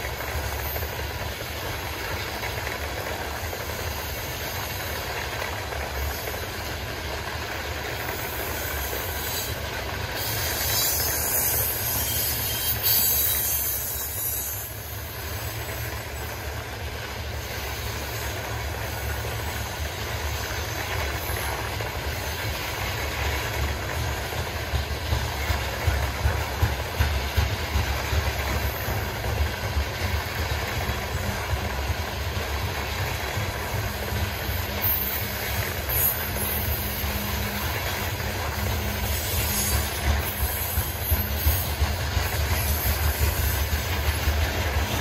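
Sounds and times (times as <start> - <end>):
sharp clacks of train wheels: 0.0 - 45.0
train wheels rumbling on rail: 0.0 - 45.0.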